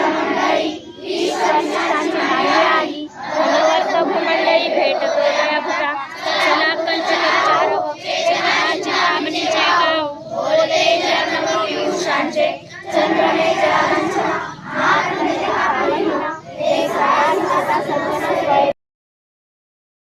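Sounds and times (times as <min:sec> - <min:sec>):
children singing in unison: 0:00.0 - 0:18.8.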